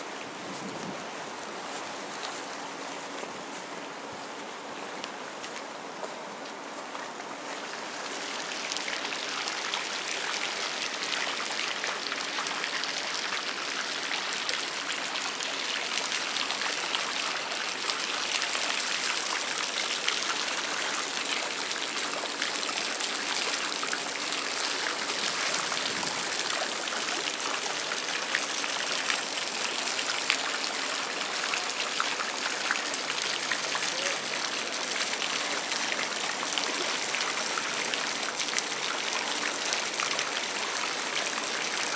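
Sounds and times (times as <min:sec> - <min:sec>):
running water splashing: 0:07.0 - 0:41.9.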